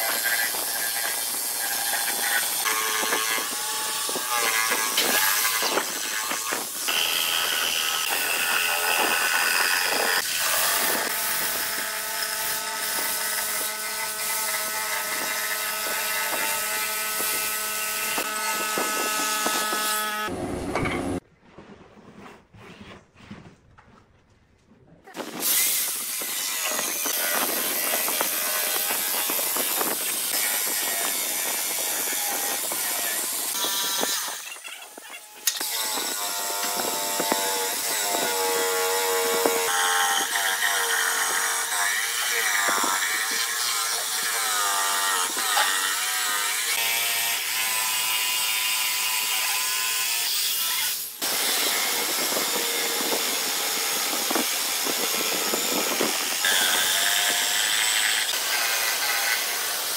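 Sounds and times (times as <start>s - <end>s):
jigsaw cutting wood: 0.0s - 20.4s, 25.2s - 59.9s.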